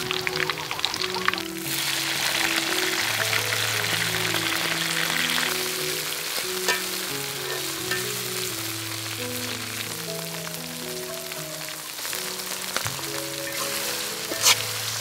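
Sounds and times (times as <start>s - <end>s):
larvae sizzling in hot oil: 0.0s - 15.0s
soft background music: 0.0s - 15.0s.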